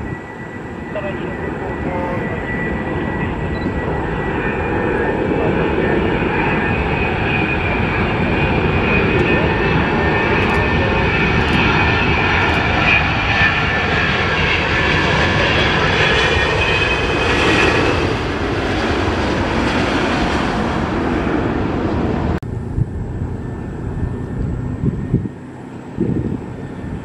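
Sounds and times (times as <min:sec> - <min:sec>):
high engine whine: 0:00.0 - 0:27.0
jet engines roaring: 0:00.0 - 0:27.0.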